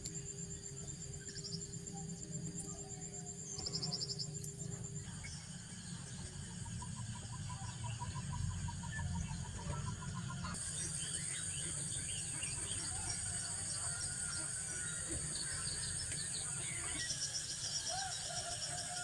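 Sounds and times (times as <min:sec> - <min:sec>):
rapid pulsing insect trill: 0:00.0 - 0:19.0
high-pitched insect drone: 0:00.1 - 0:19.0.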